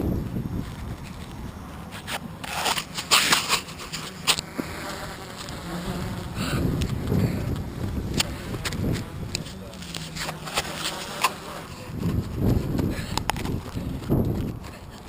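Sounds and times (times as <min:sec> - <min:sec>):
drone motors and propellers buzzing: 0:00.0 - 0:15.0
gusty wind: 0:00.0 - 0:15.0.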